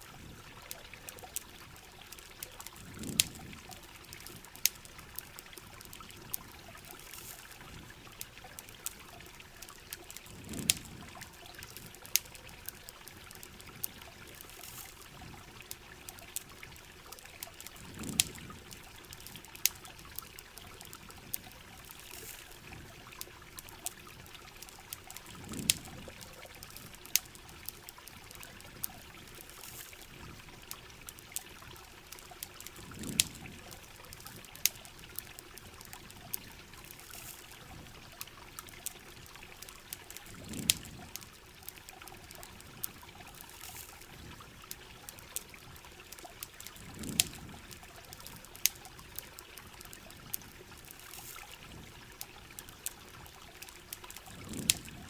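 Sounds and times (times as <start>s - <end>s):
campfire crackling: 0.0s - 55.0s
pouring water: 0.0s - 55.0s.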